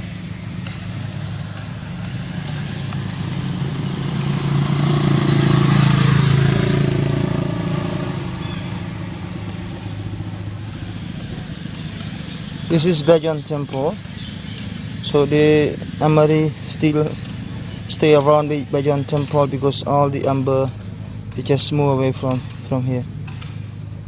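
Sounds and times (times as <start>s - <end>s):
low engine hum: 0.0s - 24.0s
motor vehicle passing: 0.0s - 24.0s.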